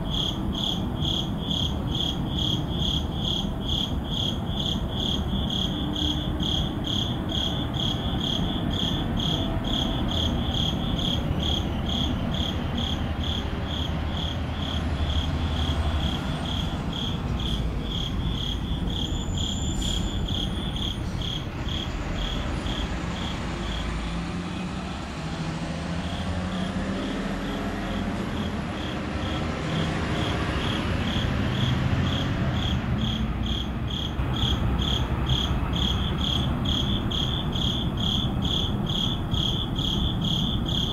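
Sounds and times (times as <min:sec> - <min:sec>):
crickets chirping: 0:00.0 - 0:40.9
low traffic rumble: 0:00.0 - 0:40.9.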